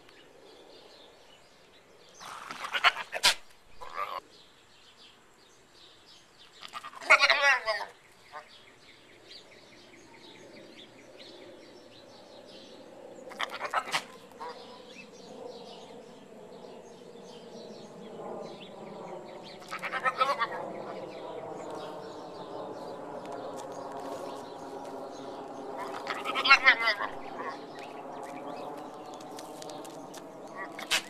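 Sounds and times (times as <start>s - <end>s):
faint bird chirping: 0.0s - 31.0s.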